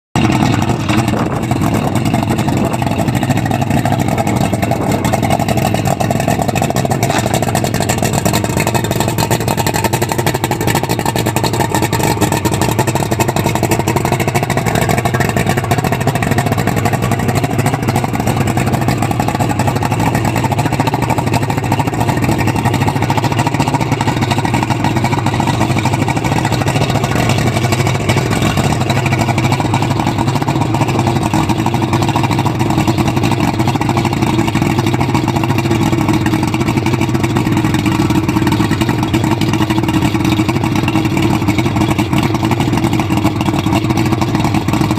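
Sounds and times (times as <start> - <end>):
outboard engine running: 0.2 - 44.9.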